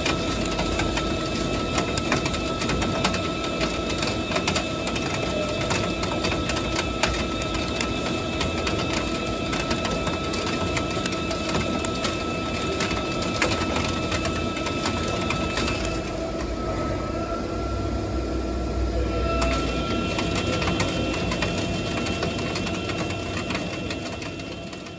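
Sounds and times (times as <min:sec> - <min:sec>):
dense patter of clicks: 0:00.0 - 0:16.5, 0:19.8 - 0:24.9
lathe running with whining tones: 0:00.0 - 0:24.9.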